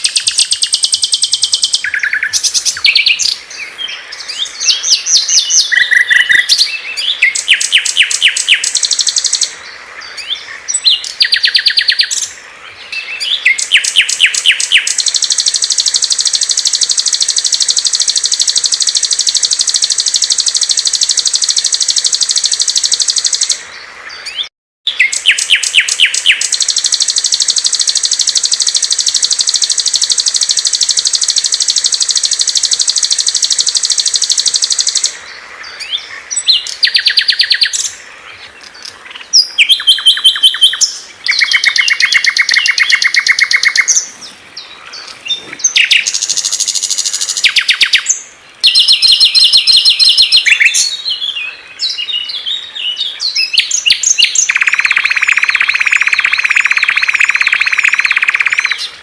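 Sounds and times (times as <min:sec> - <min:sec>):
bird chirps: 0:00.0 - 0:59.0
songbirds trilling: 0:00.0 - 0:59.0.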